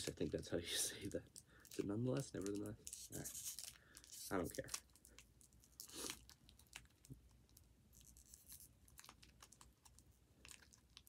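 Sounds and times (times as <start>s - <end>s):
plastic packaging crinkle: 0.0s - 11.0s.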